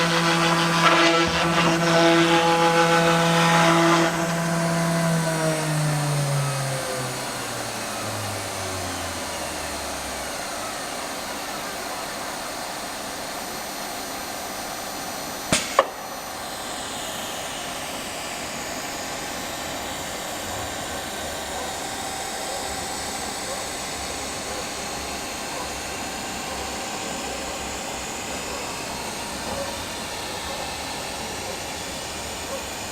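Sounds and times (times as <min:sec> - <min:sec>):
router spindle running: 0:00.0 - 0:32.9.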